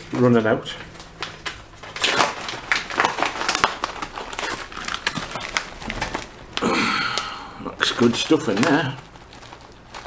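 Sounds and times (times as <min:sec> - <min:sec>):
foil pouch crinkling: 0:00.0 - 0:10.0.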